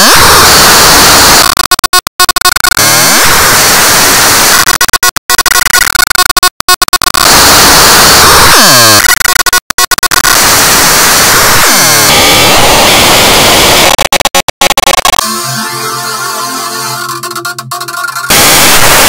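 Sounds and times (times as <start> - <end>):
harsh distorted static hiss: 0.0 - 19.0.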